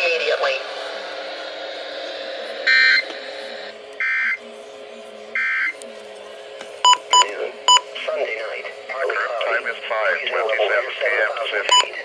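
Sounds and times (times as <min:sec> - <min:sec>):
radio background hiss: 0:00.0 - 0:12.0.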